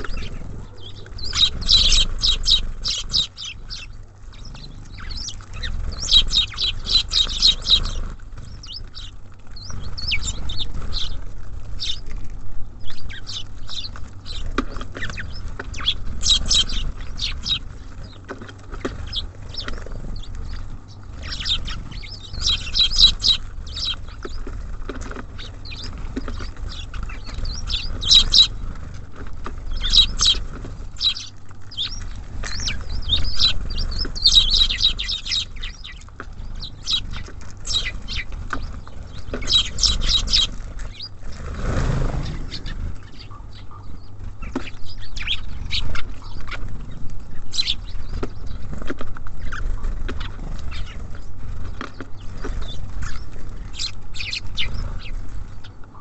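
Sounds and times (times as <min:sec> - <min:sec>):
wing flutters: 0:00.0 - 0:55.9
small songbirds chirping: 0:00.0 - 0:56.0.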